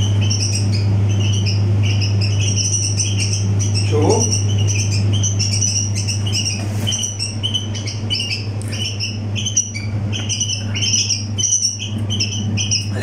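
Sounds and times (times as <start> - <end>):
bulbuls chirping: 0.0 - 13.0
steady low hum: 0.0 - 13.0.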